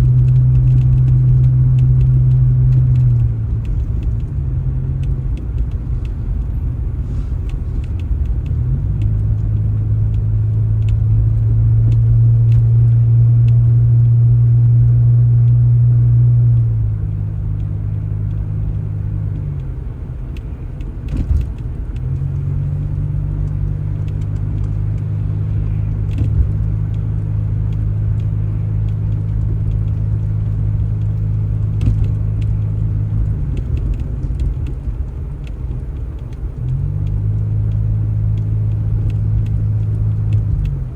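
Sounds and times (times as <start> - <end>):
vehicle engine droning: 0.0 - 40.9.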